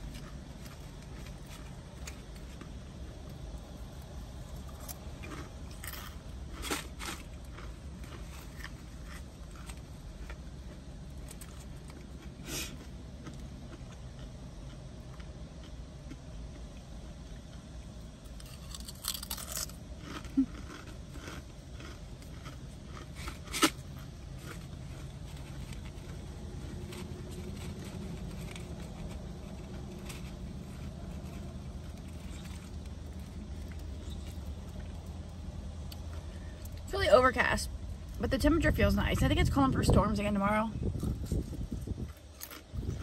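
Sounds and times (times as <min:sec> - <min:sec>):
chips crunching: 0:00.0 - 0:16.2, 0:18.2 - 0:35.3, 0:40.9 - 0:43.0
steady low hum: 0:00.0 - 0:43.0.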